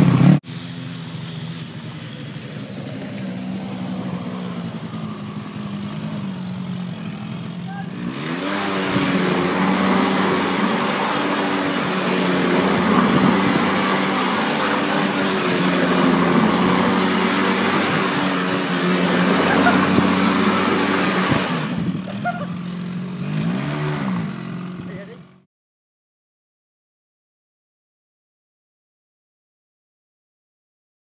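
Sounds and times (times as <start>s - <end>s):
quad bike engine revving: 0.0s - 25.5s.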